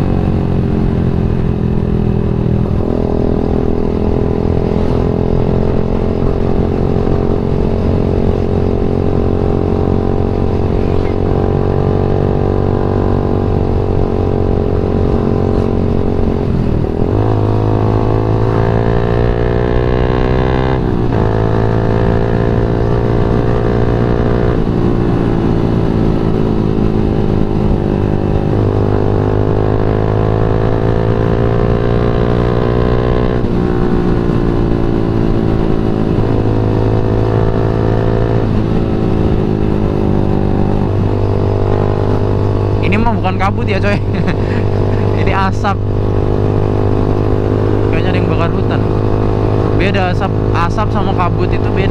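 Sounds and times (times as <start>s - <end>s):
motorcycle engine riding: 0.0s - 51.9s.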